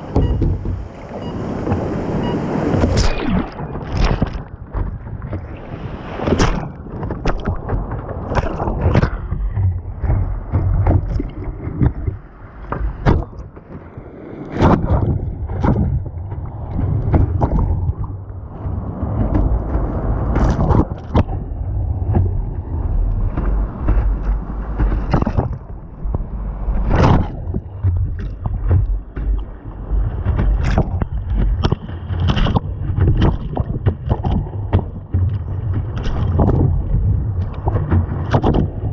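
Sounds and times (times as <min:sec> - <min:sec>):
paddle splashes: 0:00.0 - 0:38.9
wind on microphone: 0:00.0 - 0:38.9.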